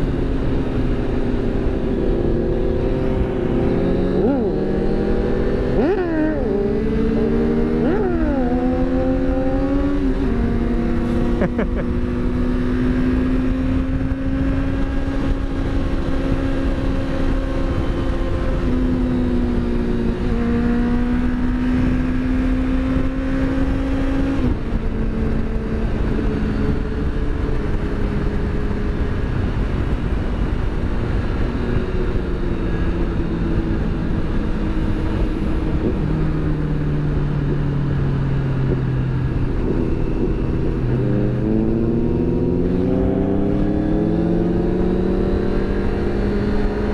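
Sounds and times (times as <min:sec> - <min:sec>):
motorcycle engine running: 0:00.0 - 0:46.9
wind and road rush: 0:00.0 - 0:46.9.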